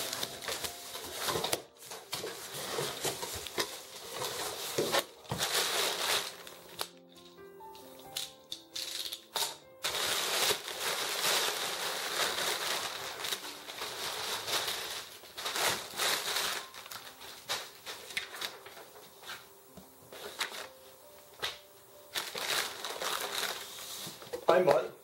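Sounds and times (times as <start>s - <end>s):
plastic packing film crinkling: 0.0s - 24.8s.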